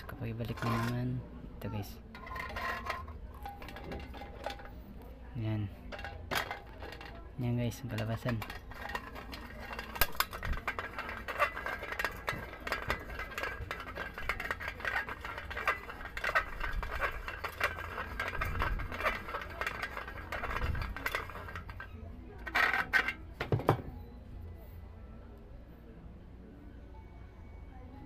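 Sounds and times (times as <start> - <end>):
metal parts clicking and clinking: 0.0 - 1.2, 1.8 - 23.8.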